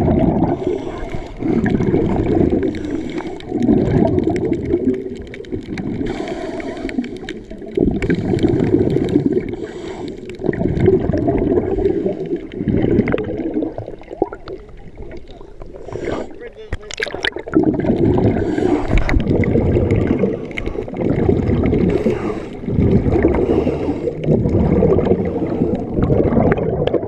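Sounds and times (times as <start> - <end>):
underwater rushing and gurgling: 0.0 - 27.0.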